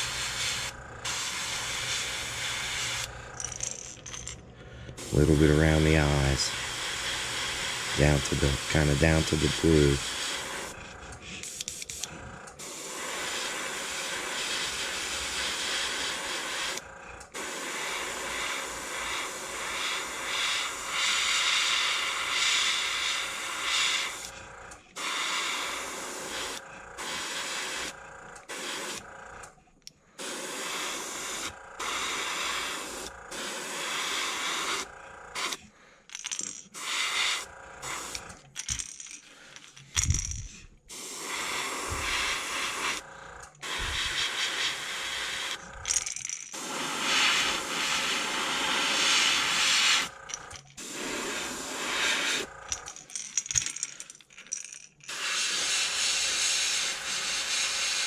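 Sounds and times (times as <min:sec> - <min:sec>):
airbrush spraying hiss: 0:00.0 - 0:03.1, 0:05.0 - 0:24.3, 0:25.0 - 0:29.0, 0:30.2 - 0:35.6, 0:36.8 - 0:38.4, 0:40.9 - 0:45.7, 0:46.5 - 0:52.5, 0:55.1 - 0:58.0.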